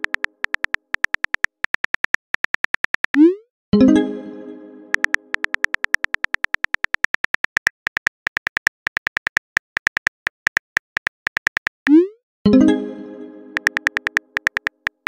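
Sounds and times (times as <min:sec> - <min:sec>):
virtual keyboard clicks: 0:00.0 - 0:03.3, 0:04.9 - 0:12.6, 0:13.5 - 0:15.0.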